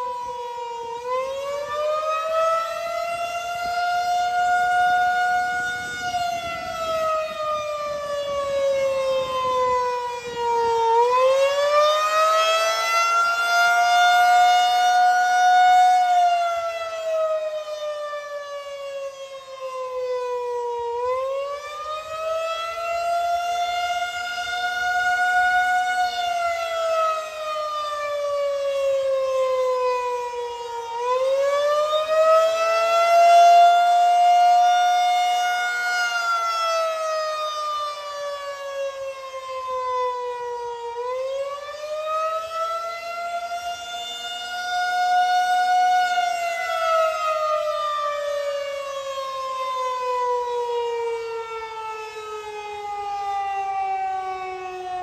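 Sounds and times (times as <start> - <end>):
civil defense siren wailing: 0.0 - 55.0.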